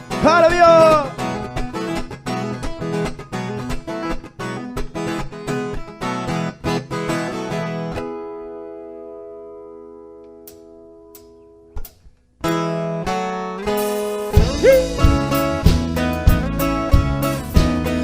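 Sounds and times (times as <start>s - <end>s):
plucked strings and acoustic guitar: 0.0s - 18.0s.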